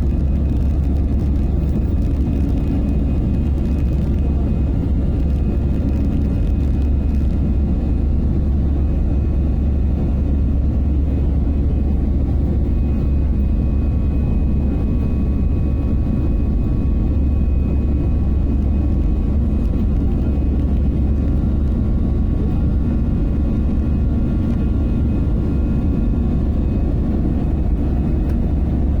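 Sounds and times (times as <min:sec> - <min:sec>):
airplane engines droning: 0:00.0 - 0:29.0.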